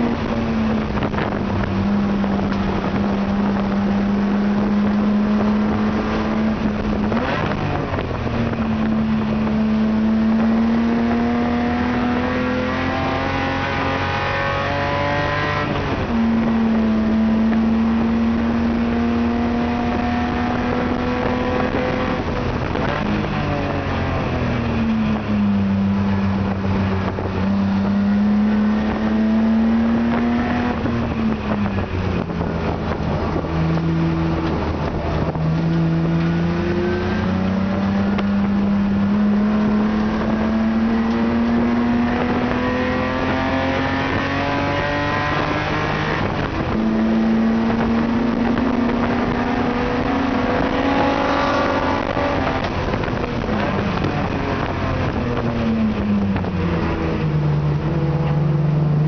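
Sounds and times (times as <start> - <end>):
race car engine from cabin: 0.0 - 59.0.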